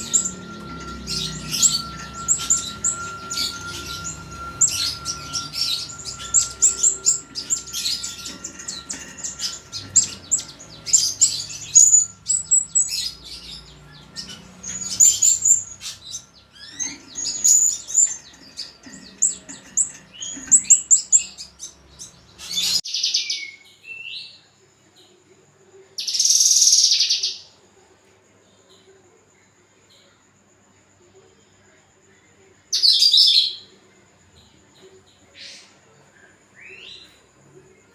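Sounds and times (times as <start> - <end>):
songbirds singing: 0.0 - 37.9.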